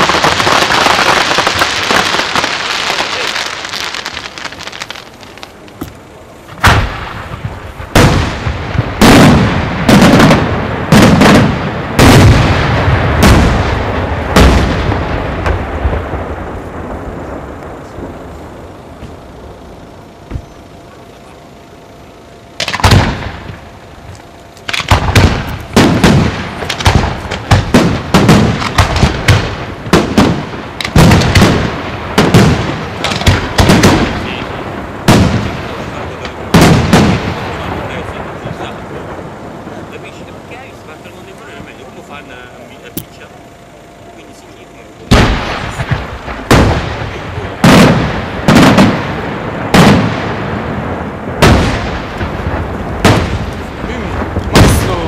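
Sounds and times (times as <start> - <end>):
crackling fireworks: 0.0 - 55.0
firework bangs: 0.0 - 55.0.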